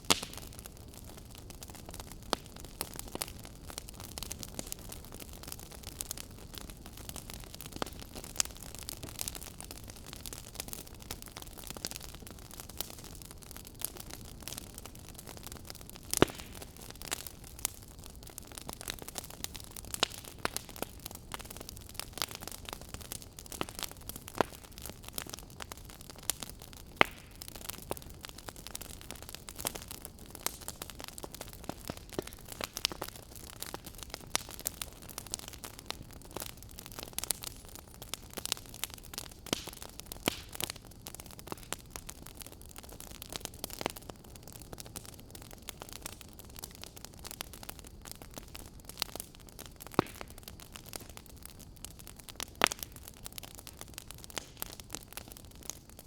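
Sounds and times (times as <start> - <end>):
soft steady fire hiss: 0.0 - 56.0
wood fire crackling and popping: 0.0 - 56.0.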